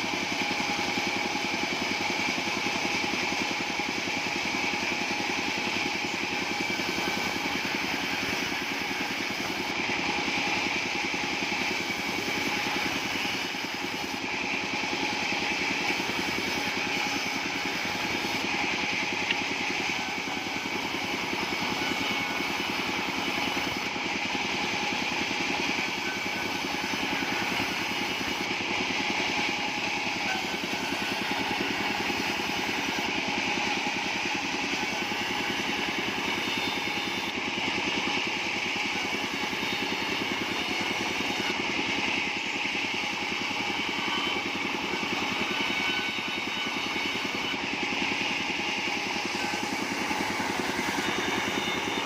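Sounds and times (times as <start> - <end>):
sawmill engine running: 0.0 - 52.0.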